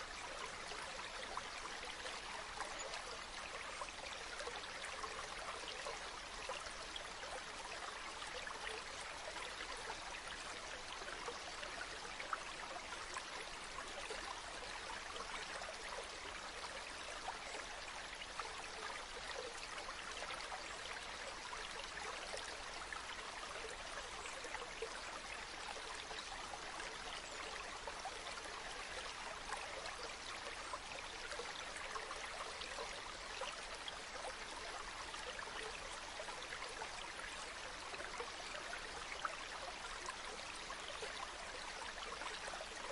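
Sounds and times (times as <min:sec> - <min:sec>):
stream flowing: 0:00.0 - 0:42.9.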